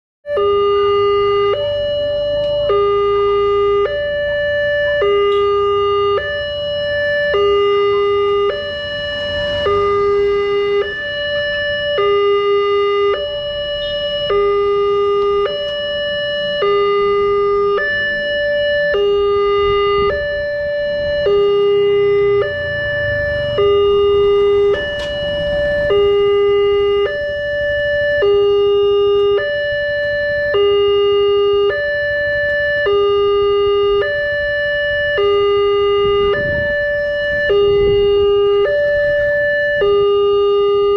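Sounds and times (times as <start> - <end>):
two-tone crossing alarm: 0.2 - 40.9.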